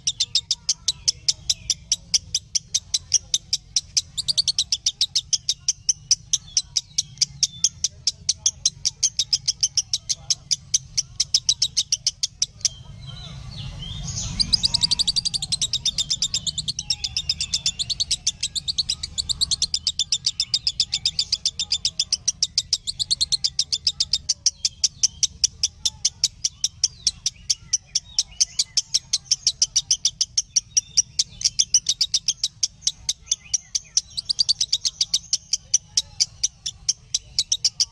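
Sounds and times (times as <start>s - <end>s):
lovebird chirping rapidly: 0.0s - 37.9s.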